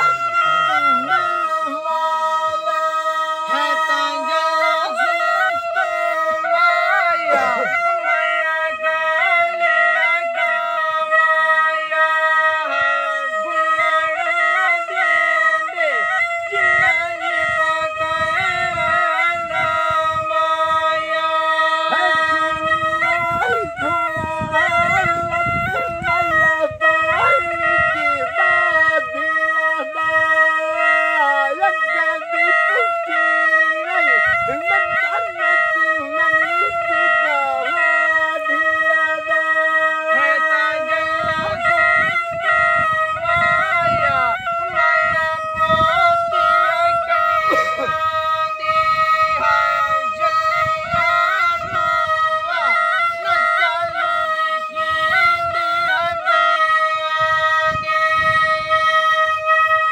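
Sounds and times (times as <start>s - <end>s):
double flute folk melody: 0.0s - 59.9s.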